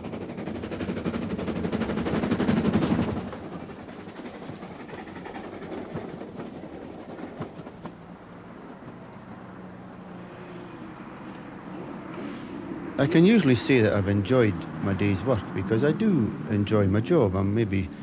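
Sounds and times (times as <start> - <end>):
train clattering past: 0.0 - 18.0.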